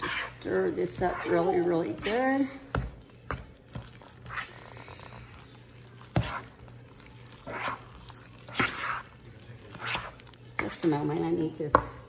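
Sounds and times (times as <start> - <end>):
spoon stirring wet mixture: 0.0 - 12.0.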